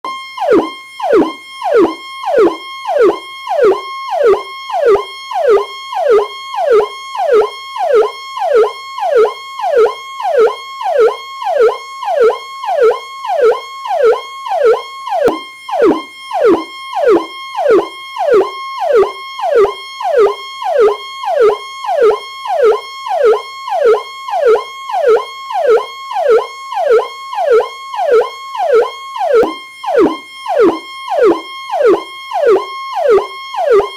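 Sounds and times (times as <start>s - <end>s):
electronic police siren: 0.0s - 33.9s.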